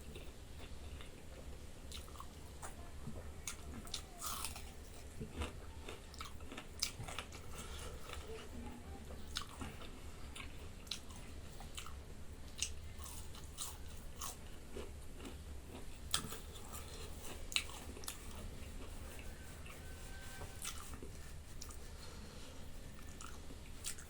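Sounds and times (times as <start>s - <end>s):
person chewing with mouth clicks: 0.0s - 2.8s, 3.4s - 8.4s, 9.0s - 22.1s, 22.9s - 24.0s
low steady hum: 0.0s - 24.0s.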